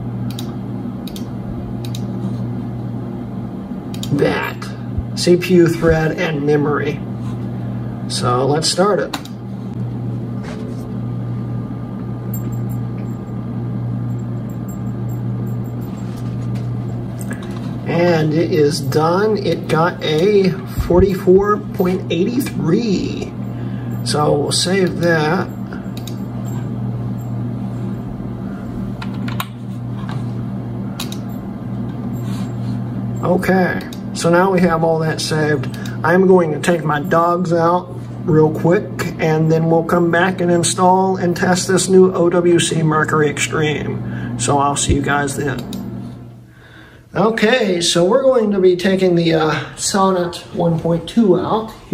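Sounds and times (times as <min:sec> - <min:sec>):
computer fans humming: 0:00.0 - 0:51.9.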